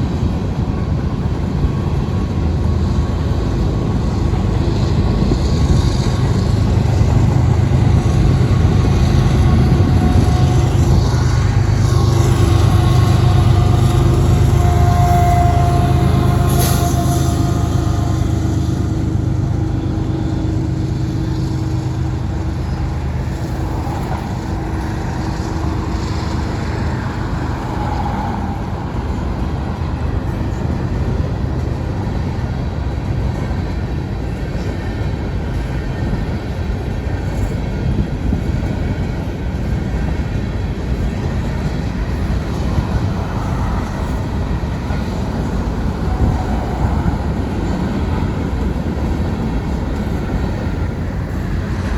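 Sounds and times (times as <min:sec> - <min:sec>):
freight cars rolling on rails: 0:00.0 - 0:51.9.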